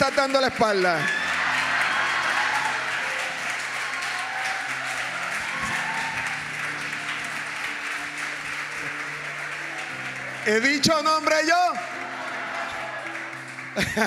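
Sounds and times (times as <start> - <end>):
congregation applauding: 0.0 - 14.0.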